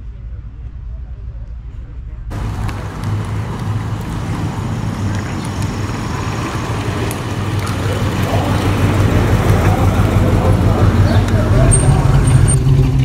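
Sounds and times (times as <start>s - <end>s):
car engine low note: 2.3s - 13.0s.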